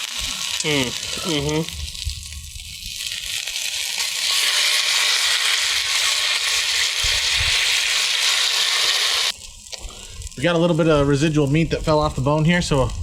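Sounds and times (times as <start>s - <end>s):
meat sizzling in a pan: 0.0s - 11.7s.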